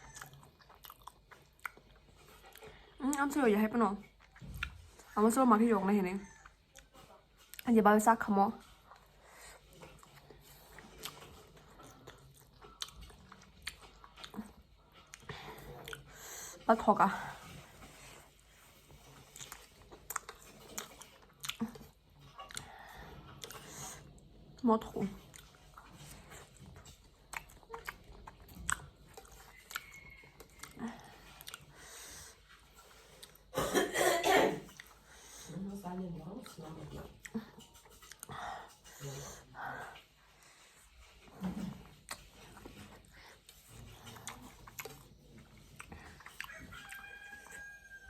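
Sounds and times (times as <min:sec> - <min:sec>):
person chewing food: 0:00.0 - 0:03.4, 0:04.0 - 0:05.2, 0:06.2 - 0:07.7, 0:08.5 - 0:33.6, 0:34.6 - 0:35.5, 0:36.4 - 0:48.0.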